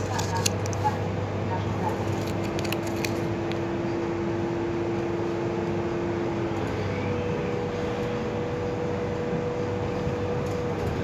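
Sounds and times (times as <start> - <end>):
bus drivetrain hum and whine: 0.0 - 11.0.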